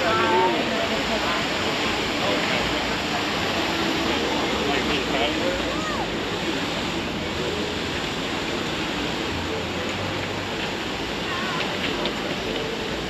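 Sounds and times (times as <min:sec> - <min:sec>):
crowd chatter: 0:00.0 - 0:13.0
rushing wash of noise: 0:00.0 - 0:13.0.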